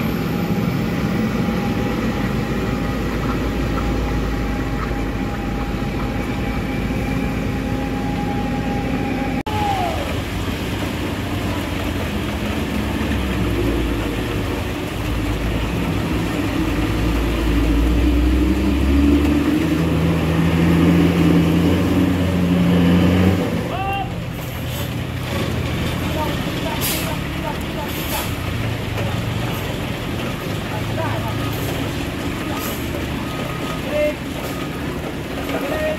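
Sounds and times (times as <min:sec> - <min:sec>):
diesel truck engine labouring uphill: 0:00.0 - 0:35.9.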